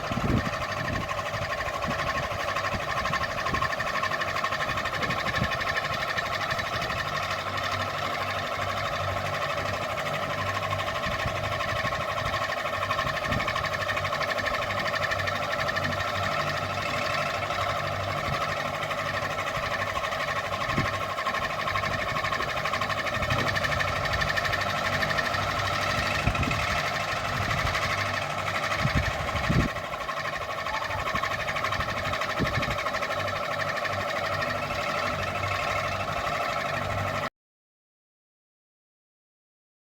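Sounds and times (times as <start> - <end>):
ceiling fan whirring: 0.0 - 37.2.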